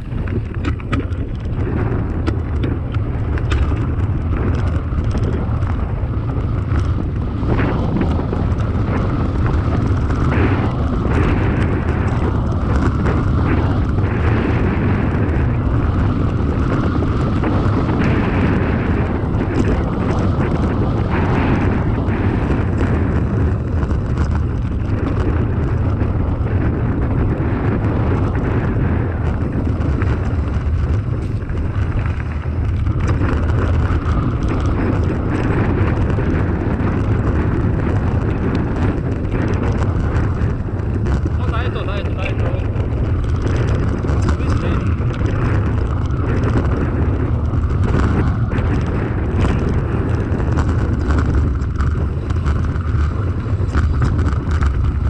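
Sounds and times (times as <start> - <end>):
bike rattling over bumps: 0.0 - 55.0
bike tyres rolling on gravel: 0.0 - 55.0
wind buffeting microphone: 0.0 - 55.0.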